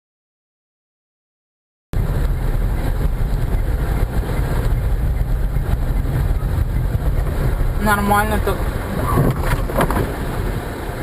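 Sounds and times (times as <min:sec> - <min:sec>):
car road and engine noise: 0:02.0 - 0:11.0.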